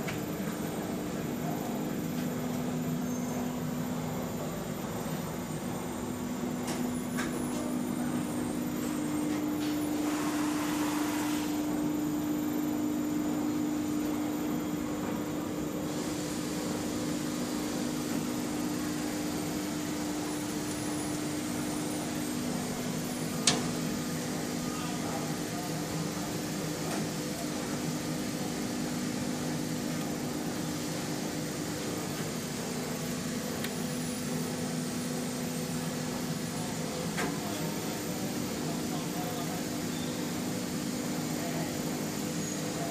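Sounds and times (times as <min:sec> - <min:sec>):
electrical machine hum: 0:00.0 - 0:42.9.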